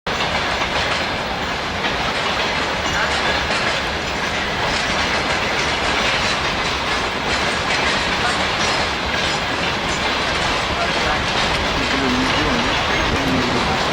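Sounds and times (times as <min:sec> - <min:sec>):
steam train running on rails: 0:00.0 - 0:13.9.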